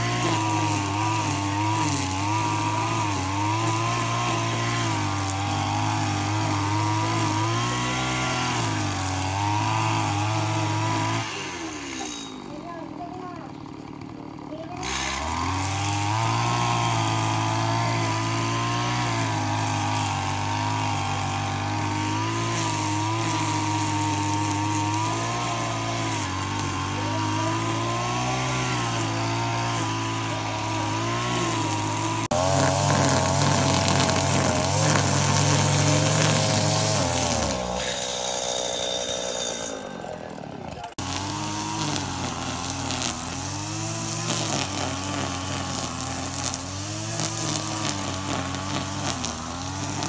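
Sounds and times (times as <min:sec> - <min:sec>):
brushcutter engine cutting grass: 0:00.0 - 0:50.0.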